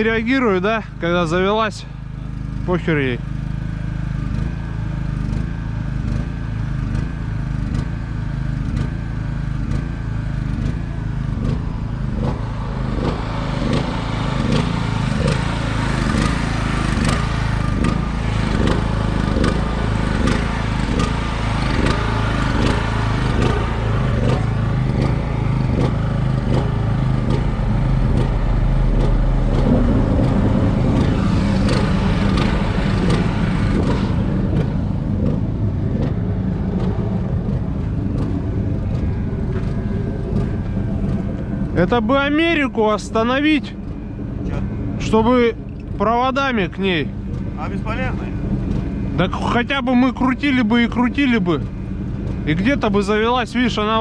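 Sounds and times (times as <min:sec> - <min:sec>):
diesel engine running unevenly: 0:00.0 - 0:54.0.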